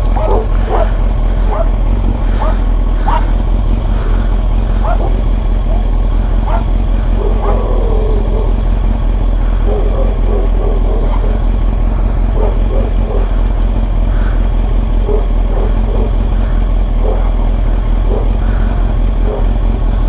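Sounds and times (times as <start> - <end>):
faint voices: 0.0 - 20.0
vehicle low rumble: 0.0 - 20.0.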